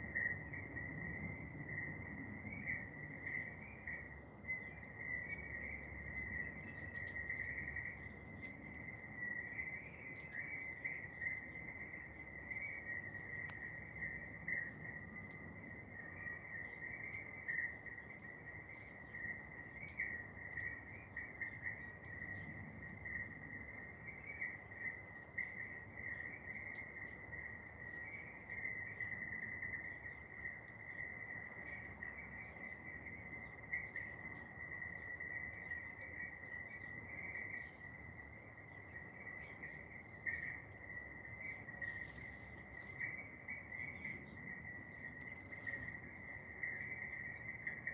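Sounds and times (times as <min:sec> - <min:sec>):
crickets trilling: 0:00.0 - 0:47.9
faint bird chirps: 0:00.0 - 0:47.9.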